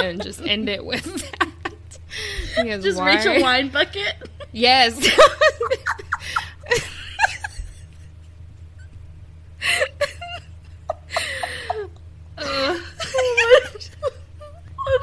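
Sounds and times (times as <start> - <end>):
women laughing: 0.0 - 8.9, 9.6 - 15.0
faint low hum: 0.0 - 15.0.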